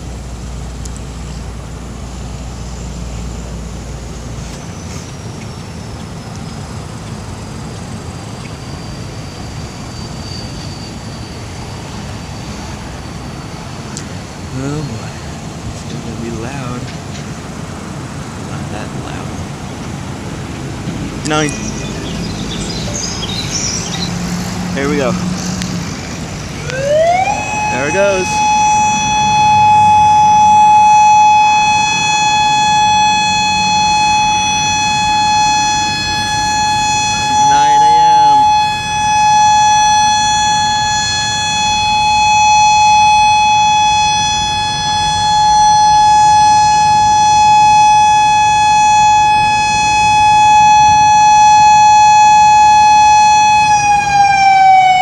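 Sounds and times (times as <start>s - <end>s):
faint high whine: 0.0s - 20.5s, 21.2s - 54.3s
high-pitched warning siren: 2.1s - 55.0s.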